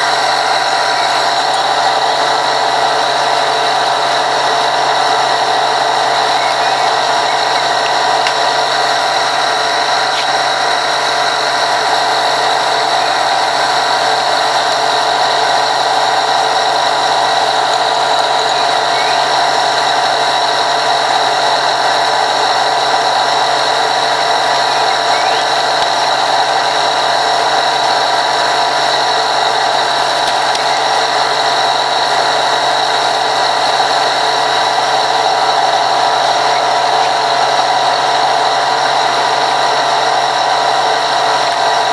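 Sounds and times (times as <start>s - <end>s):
steady machine drone: 0.0s - 41.9s.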